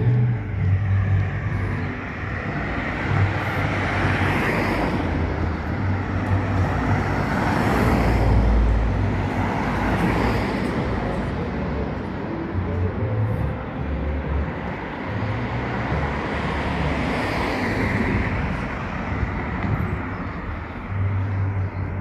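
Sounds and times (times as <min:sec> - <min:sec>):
vehicles passing close by: 0:00.0 - 0:22.0.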